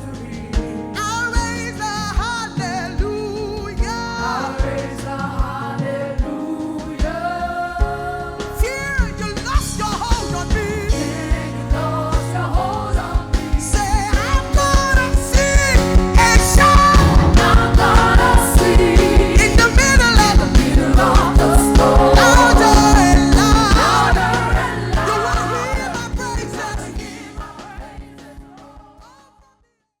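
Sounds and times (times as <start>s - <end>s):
fast drum beat: 0.0s - 28.4s
band and singers playing praise song: 0.0s - 29.4s.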